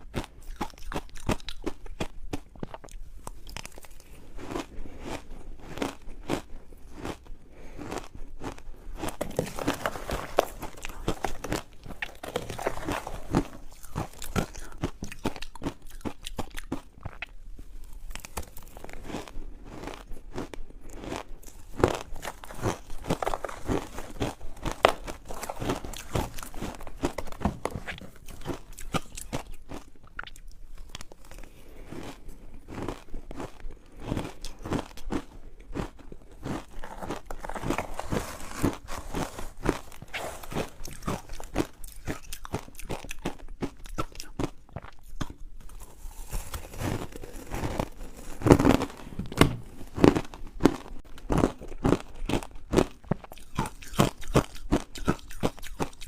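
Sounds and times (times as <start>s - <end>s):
person chewing ice crunching: 0.0s - 56.0s.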